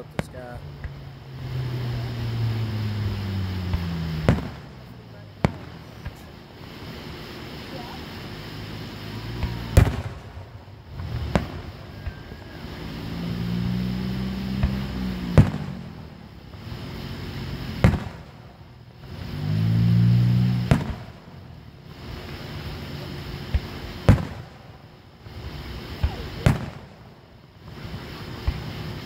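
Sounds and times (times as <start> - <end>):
fireworks booming: 0.0 - 29.0
low drone: 0.0 - 29.0.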